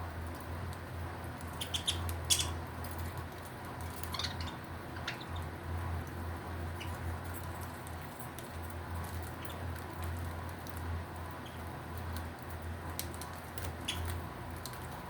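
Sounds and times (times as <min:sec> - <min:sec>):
birds husking seeds clicking: 0:00.3 - 0:15.0.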